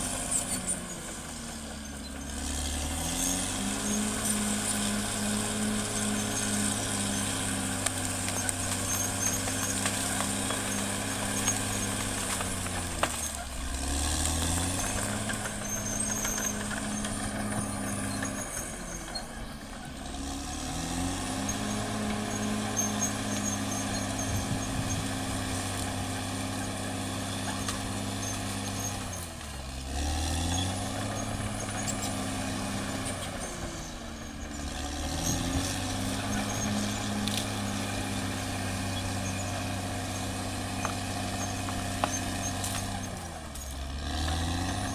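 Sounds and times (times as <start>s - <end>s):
bulldozer diesel engine working: 0.0s - 44.9s.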